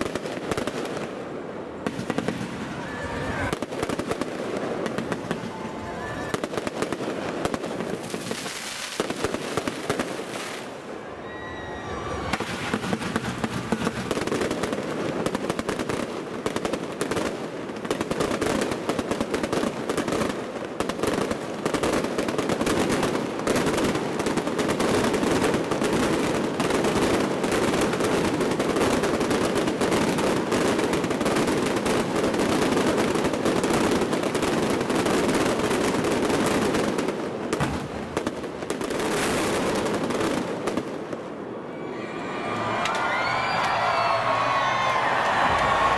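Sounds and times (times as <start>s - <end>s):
fireworks booming and crackling: 0.0s - 41.7s.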